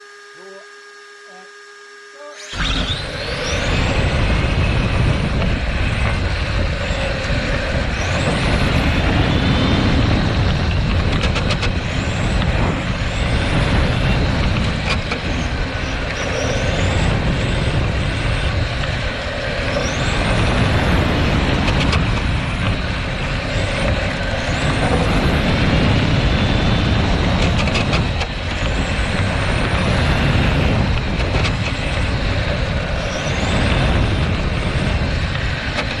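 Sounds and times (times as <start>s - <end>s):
rc car motor whine: 0.0s - 36.0s
rumble of wheels on track: 2.5s - 36.0s.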